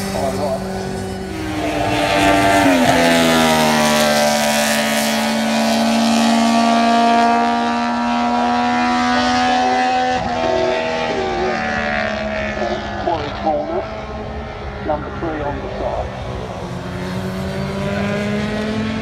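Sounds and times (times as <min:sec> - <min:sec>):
high motorcycle engine drone: 0:00.0 - 0:19.0
motorcycle passing at speed: 0:00.0 - 0:19.0.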